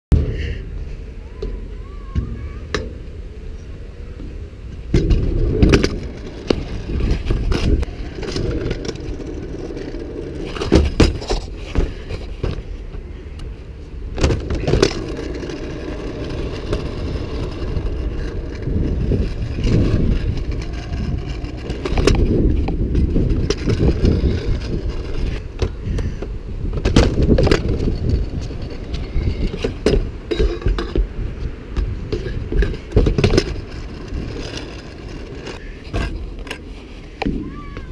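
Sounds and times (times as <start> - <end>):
scooter wheels rolling on asphalt: 0.2 - 37.9.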